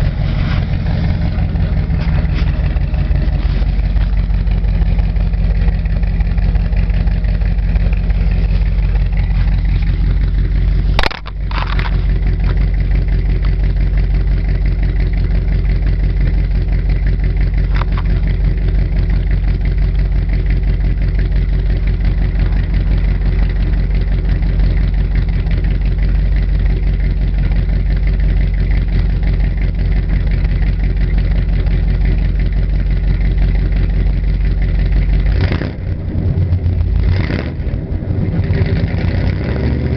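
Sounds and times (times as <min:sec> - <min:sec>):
loud vee eight engine idling: 0:00.0 - 0:39.9.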